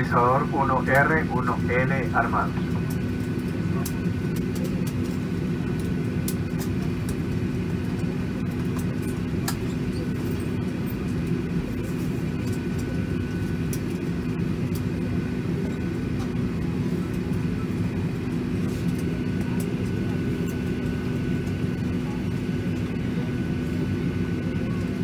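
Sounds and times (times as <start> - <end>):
airplane cabin hum: 0.0 - 25.0.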